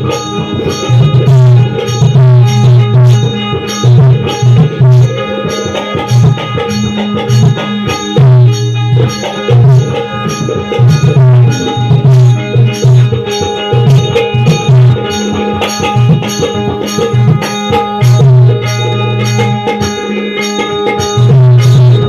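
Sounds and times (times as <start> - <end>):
hand drum fast rhythm: 0.0 - 22.0
steady held tones: 0.0 - 22.0.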